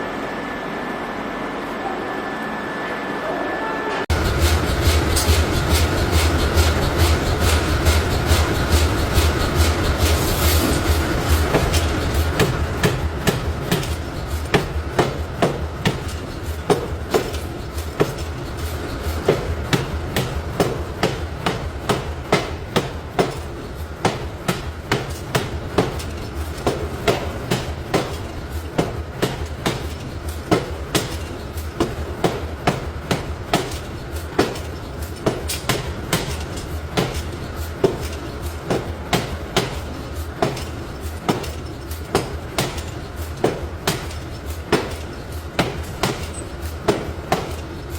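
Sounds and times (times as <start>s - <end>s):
low rumble of machinery: 4.0s - 47.9s
metal clanging under hammer blows: 4.1s - 47.9s.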